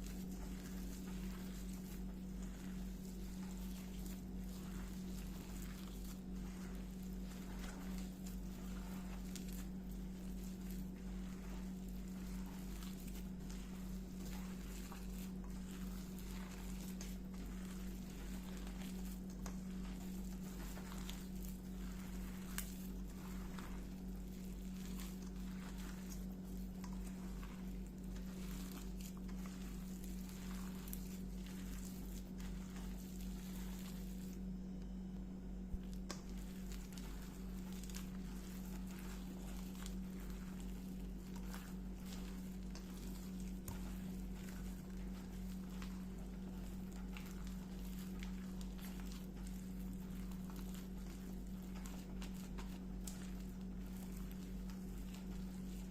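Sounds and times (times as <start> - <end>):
hands tapping and rustling utensils: 0.0 - 34.4, 35.7 - 55.9
steady low hum: 0.0 - 55.9.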